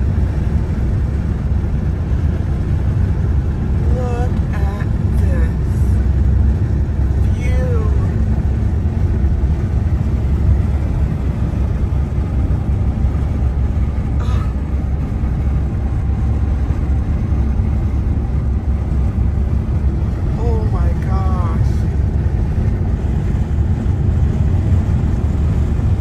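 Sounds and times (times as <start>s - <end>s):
road and tyre noise in car: 0.0s - 26.0s.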